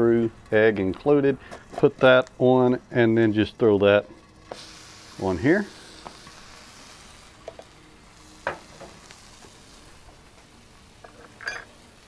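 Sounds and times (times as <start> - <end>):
burgers sizzling on a griddle: 0.0 - 12.0.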